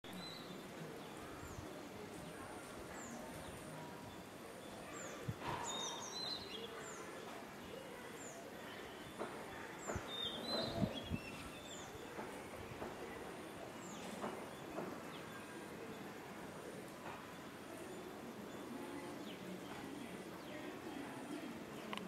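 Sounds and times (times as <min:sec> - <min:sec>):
faint outdoor background noise: 0:00.0 - 0:22.0
small birds chirping: 0:00.0 - 0:22.0.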